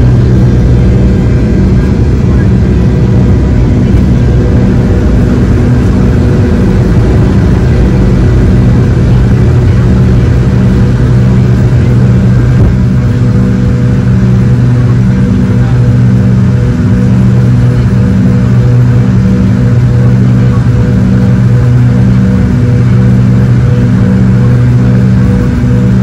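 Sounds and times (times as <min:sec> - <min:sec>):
jet cabin engine drone: 0:00.0 - 0:26.0.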